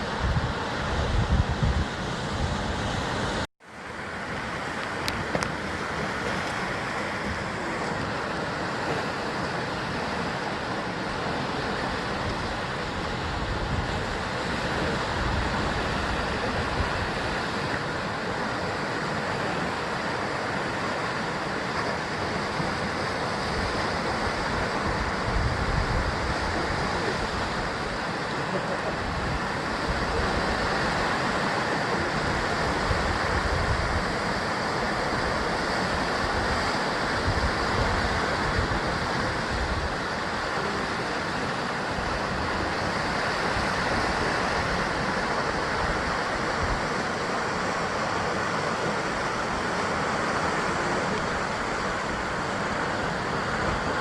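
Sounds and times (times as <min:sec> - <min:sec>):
sea waves surging against cliffs: 0:00.0 - 0:54.0.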